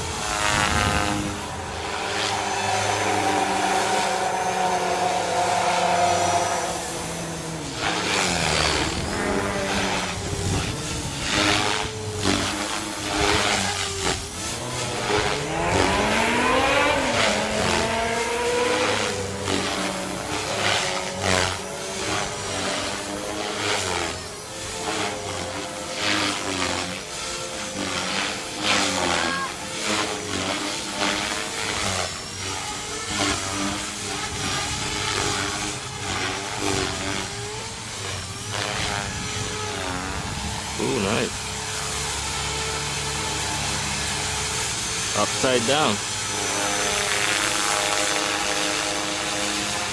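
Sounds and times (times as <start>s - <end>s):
electric motor whine: 0.0s - 49.9s
remote-control helicopter flying: 0.0s - 49.9s.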